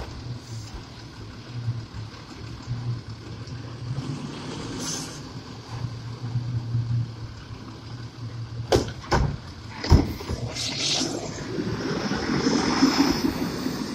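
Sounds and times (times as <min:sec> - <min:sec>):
garbage truck low hum: 0:00.0 - 0:13.9.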